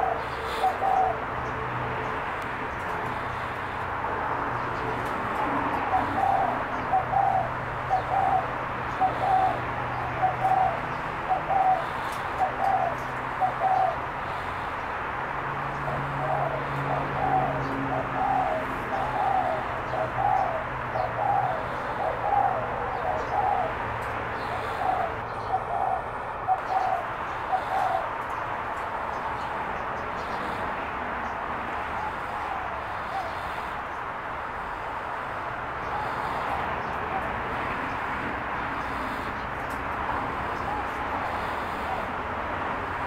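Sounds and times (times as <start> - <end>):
dove cooing: 0.0 - 1.6, 2.7 - 35.0, 35.8 - 38.0, 38.6 - 43.0.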